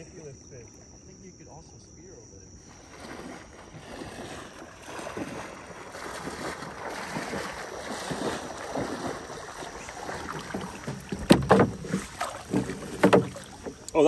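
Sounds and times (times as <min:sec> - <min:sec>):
splashing steps through shallow water: 0:02.6 - 0:14.0.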